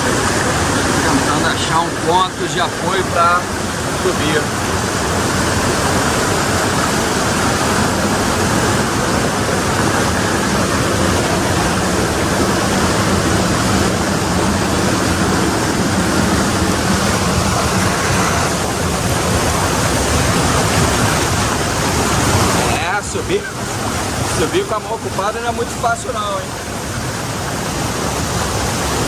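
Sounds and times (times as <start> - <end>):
waterfall roaring over rocks: 0.0 - 29.0.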